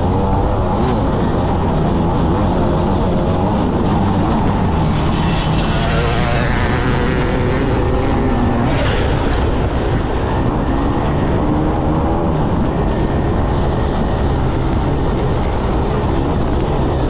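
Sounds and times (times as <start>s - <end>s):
motorcycle engine revving: 0.0s - 17.0s
wind rumble on microphone: 0.0s - 17.0s.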